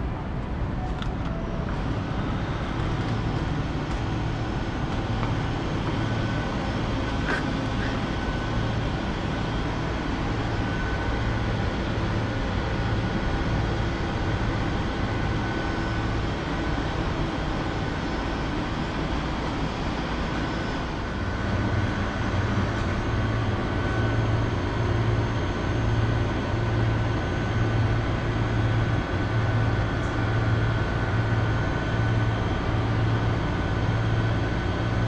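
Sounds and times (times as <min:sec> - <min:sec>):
vending machines humming: 0:00.0 - 0:35.0.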